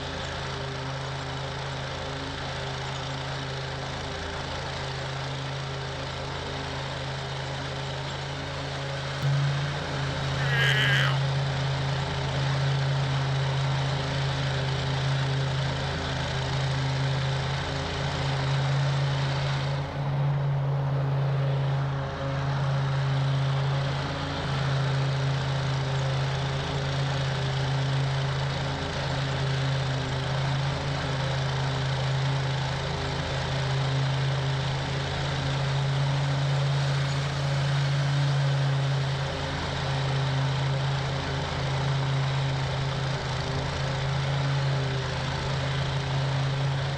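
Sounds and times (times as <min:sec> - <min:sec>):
mower engine running: 0:00.0 - 0:10.4, 0:11.2 - 0:46.9.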